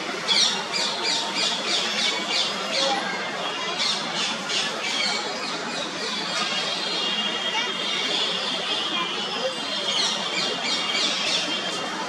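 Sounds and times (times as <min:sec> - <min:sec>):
background murmur: 0:00.0 - 0:12.0.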